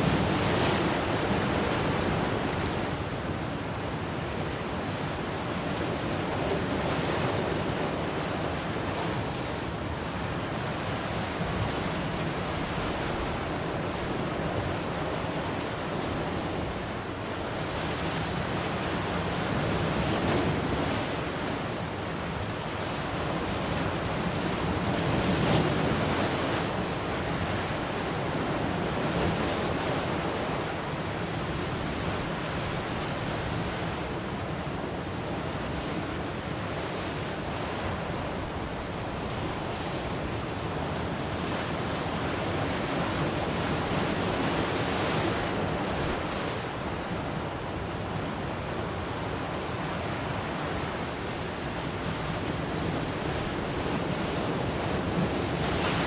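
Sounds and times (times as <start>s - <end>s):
ocean waves breaking: 10.6s - 56.0s.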